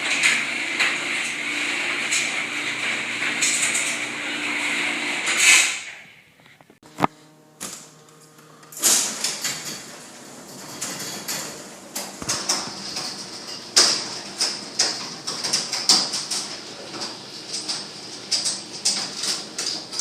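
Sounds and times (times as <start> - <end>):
garage door rattling: 0.0 - 6.1, 8.7 - 20.0.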